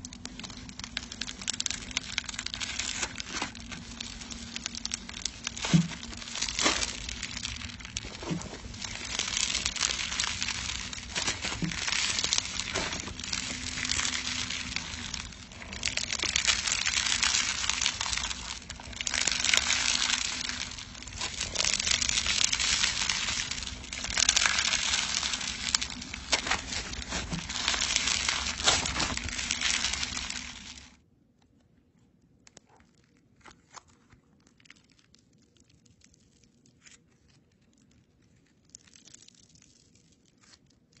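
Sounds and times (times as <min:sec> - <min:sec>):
crunchy slime crackling: 0:00.0 - 0:31.0, 0:32.2 - 0:41.0.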